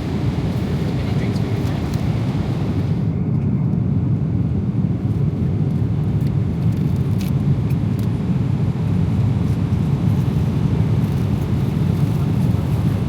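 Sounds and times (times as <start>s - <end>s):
aircraft cabin low rumble: 0.0s - 13.0s.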